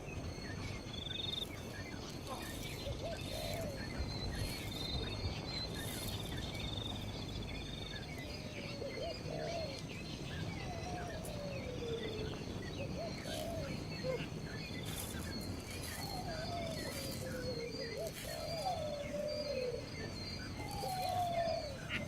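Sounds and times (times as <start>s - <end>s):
high pulsing insect trill: 0.0s - 22.0s
low whistled descending bird call: 0.0s - 22.0s.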